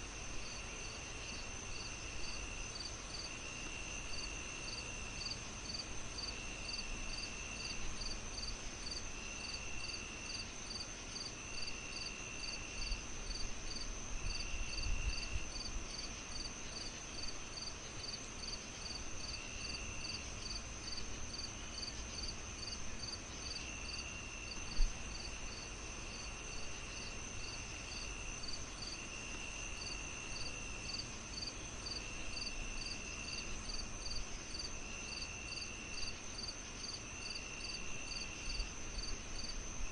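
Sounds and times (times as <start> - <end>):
crickets chirping: 0.0 - 39.9
cricket trills: 0.2 - 39.9.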